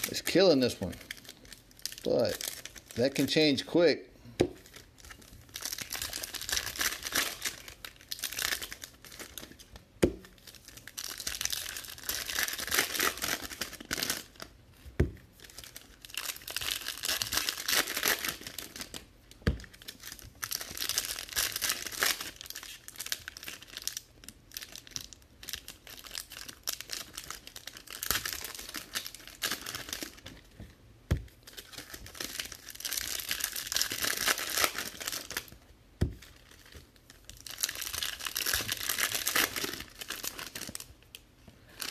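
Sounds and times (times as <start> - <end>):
foil wrappers crinkling and tearing: 0.0 - 3.6, 4.6 - 14.5, 15.3 - 30.5, 31.3 - 35.6, 36.2 - 41.9.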